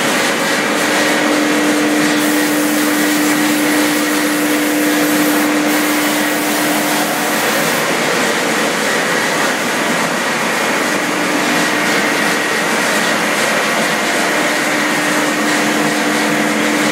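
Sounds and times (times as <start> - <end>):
pellet mill running: 0.0 - 16.9.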